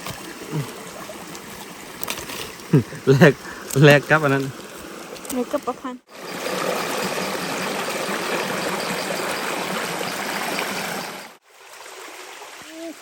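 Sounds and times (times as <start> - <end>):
forest stream water running: 0.0 - 13.0.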